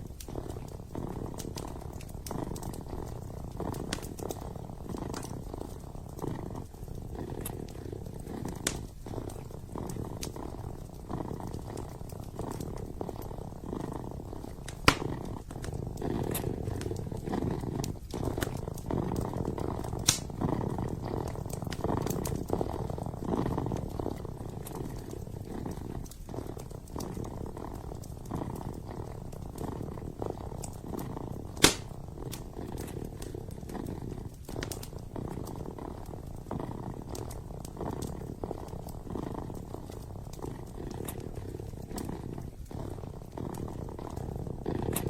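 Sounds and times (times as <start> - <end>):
kitten purring: 0.0 - 45.0
wood fire popping: 0.0 - 45.0.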